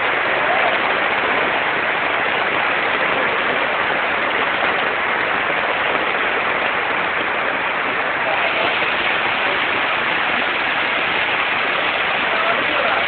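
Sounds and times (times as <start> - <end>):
water rushing down a street: 0.0 - 13.0.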